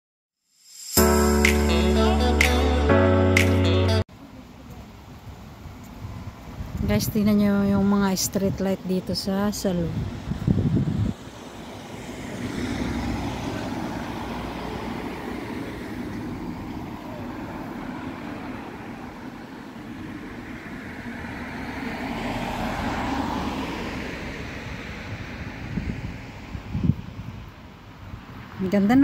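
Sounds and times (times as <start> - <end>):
cars passing: 1.0 - 4.6, 8.1 - 29.0.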